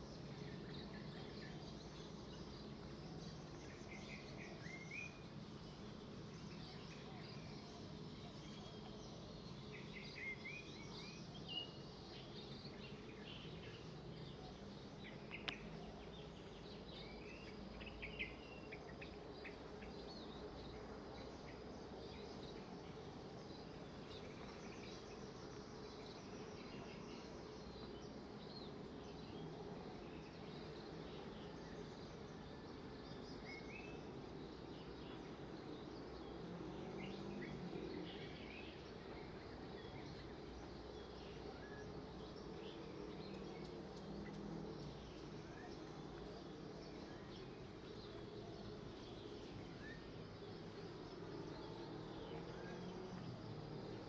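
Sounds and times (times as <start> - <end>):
steady background noise: 0.0 - 54.0.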